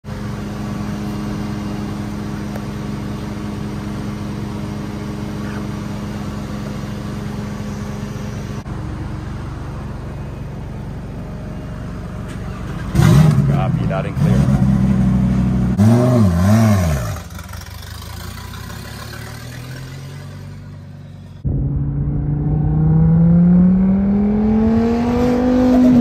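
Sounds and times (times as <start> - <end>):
car engine idling: 0.0 - 15.8, 16.9 - 23.8.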